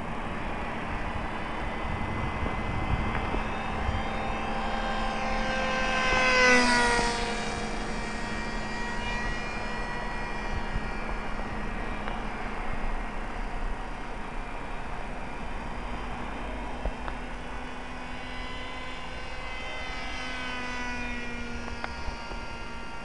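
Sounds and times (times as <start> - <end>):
model plane propeller whining: 0.0 - 23.0.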